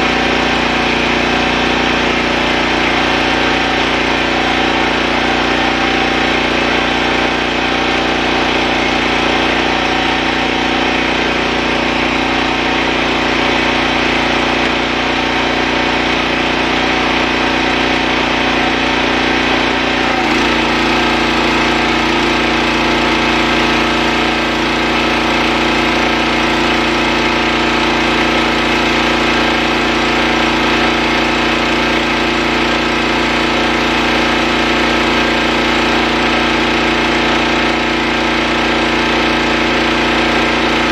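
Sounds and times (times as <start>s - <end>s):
pressure washer running: 0.0s - 40.9s.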